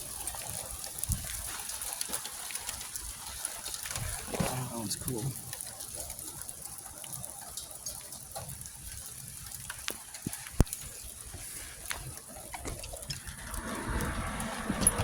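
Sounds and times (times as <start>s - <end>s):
hailstones ticking: 0.0s - 15.0s
rain falling: 0.0s - 15.0s.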